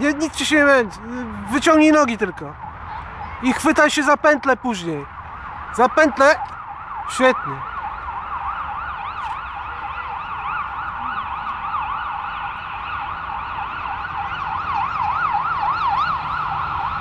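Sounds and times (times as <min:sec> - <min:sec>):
emergency siren yelping: 0:00.0 - 0:17.0
second siren: 0:00.0 - 0:17.0.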